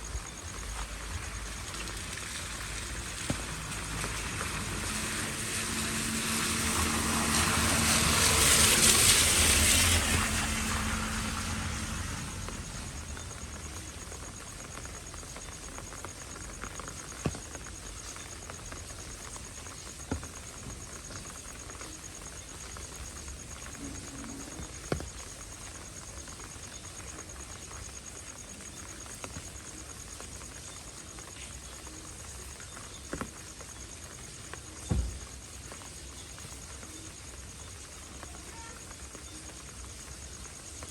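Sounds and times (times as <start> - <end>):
rain falling on street: 0.0 - 40.9.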